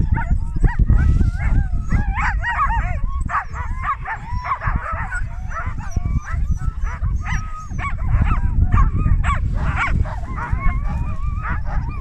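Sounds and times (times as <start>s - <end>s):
dogs yipping and barking: 0.0s - 12.0s.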